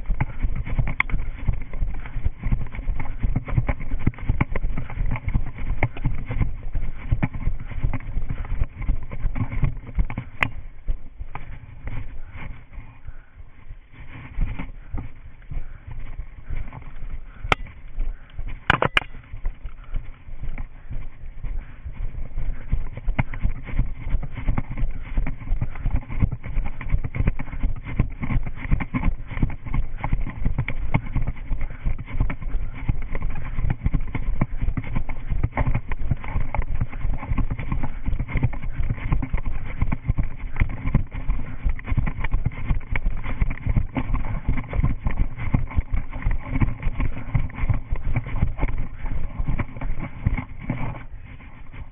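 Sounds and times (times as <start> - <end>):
running footsteps: 0.0 - 51.9.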